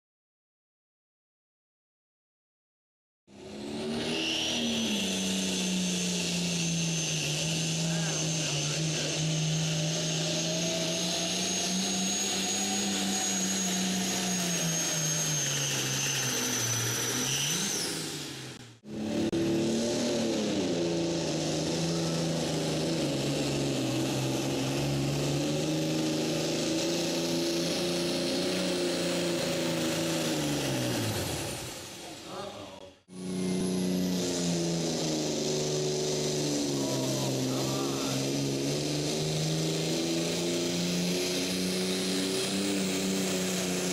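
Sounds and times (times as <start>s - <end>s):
tractor diesel engines under load: 3.4s - 43.9s.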